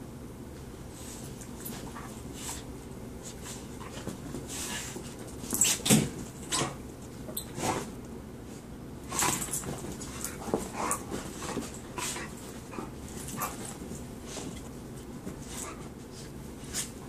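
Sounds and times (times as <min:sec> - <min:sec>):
dogs play-wrestling noises: 0:00.8 - 0:17.0
dogs scuffling: 0:00.9 - 0:08.0, 0:09.0 - 0:17.0.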